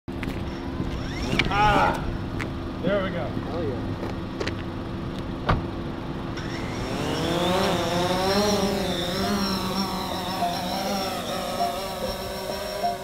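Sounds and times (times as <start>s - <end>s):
drone motors humming and whining: 0.1s - 13.0s.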